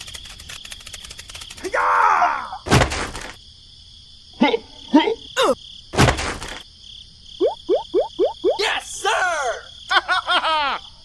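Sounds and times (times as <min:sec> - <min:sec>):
chirping insects: 0:00.0 - 0:11.0.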